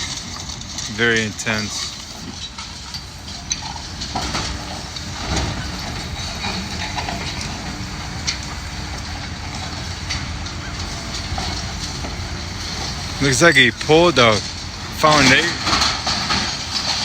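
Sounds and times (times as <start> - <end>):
breaking concrete and falling debris: 0.0 - 17.0
excavator diesel engine running: 0.0 - 17.0.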